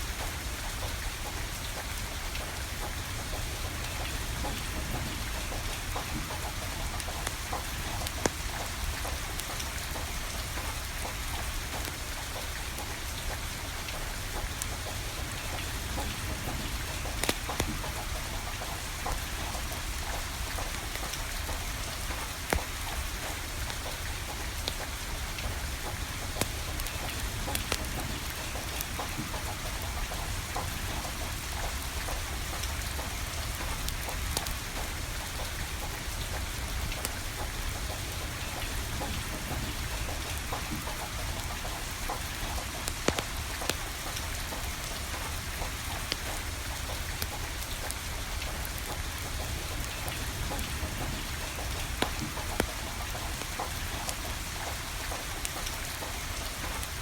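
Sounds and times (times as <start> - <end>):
rain pattering: 0.0 - 57.0
wood fire crackling: 0.1 - 57.0.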